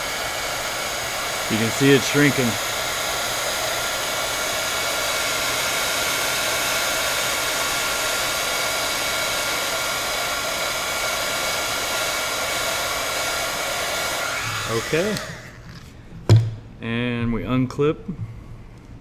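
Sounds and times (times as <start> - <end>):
fan motor whine: 0.0 - 16.0
heat gun blowing air: 0.0 - 16.0.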